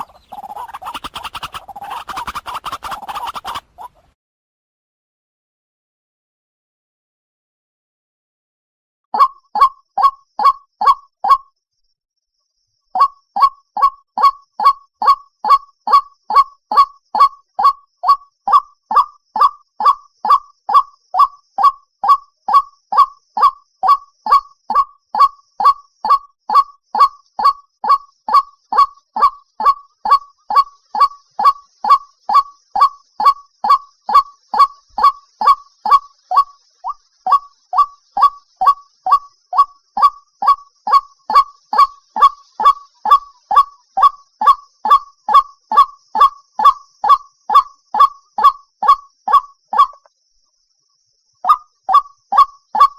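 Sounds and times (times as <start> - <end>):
waterhen repeated honking call: 0.0 - 4.1, 9.2 - 11.4, 13.0 - 50.1, 51.5 - 52.9.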